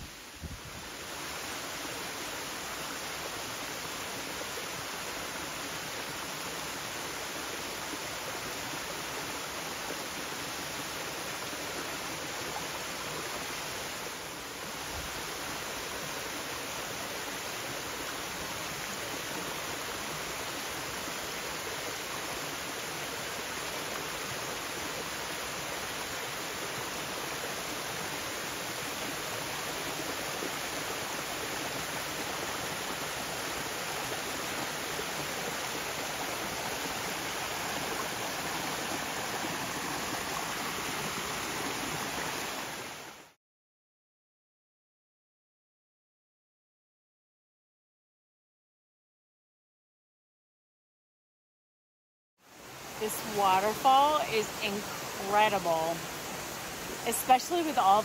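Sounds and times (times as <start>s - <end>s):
waterfall rushing: 0.0s - 43.4s, 52.6s - 58.0s.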